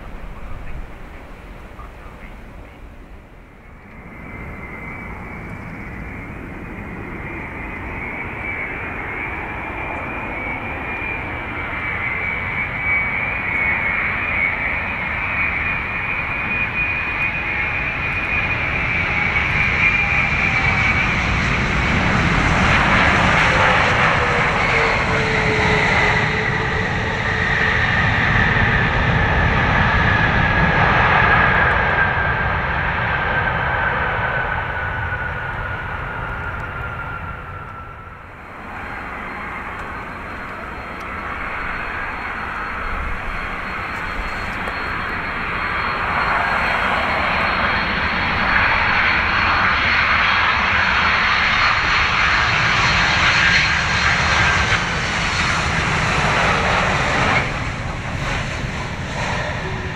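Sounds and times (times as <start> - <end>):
jet engine roar: 0.0 - 59.9
jet engine whine: 0.0 - 59.9.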